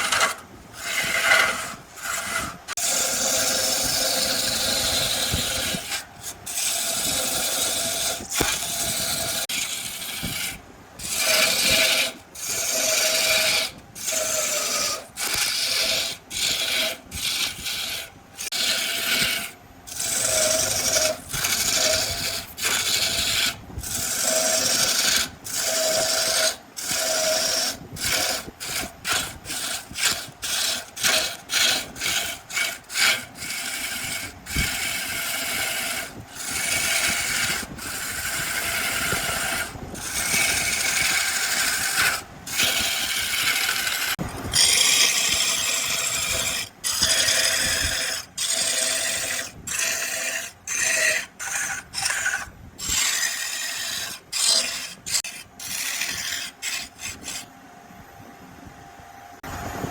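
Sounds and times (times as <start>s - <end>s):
gouge rasping on wood: 0.0s - 57.5s
wood lathe spinning: 0.0s - 57.5s.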